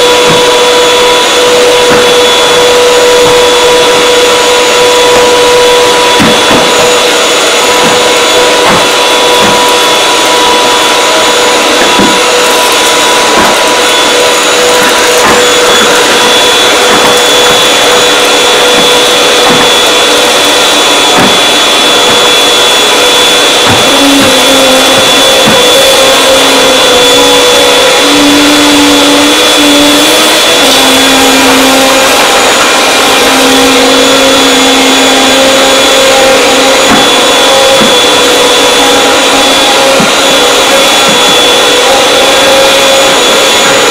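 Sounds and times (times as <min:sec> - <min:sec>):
low hum: 0:00.0 - 0:43.9
vacuum cleaner motor whine: 0:00.0 - 0:43.9.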